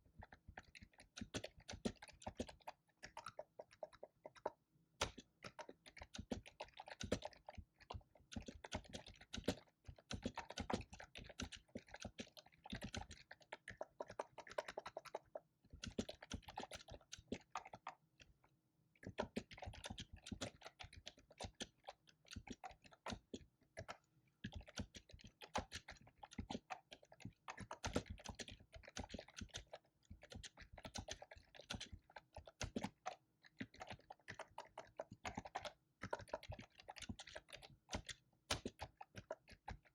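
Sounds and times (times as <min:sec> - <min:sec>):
fast typing on keyboard: 0:00.2 - 0:18.0, 0:19.1 - 0:39.9.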